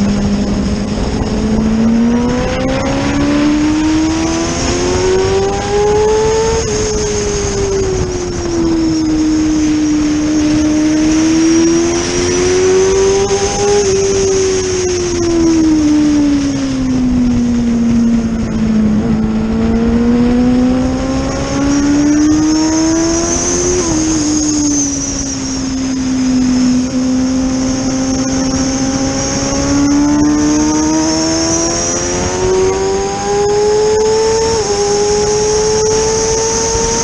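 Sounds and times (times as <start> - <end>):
racing engine at speed: 0.0 - 37.0.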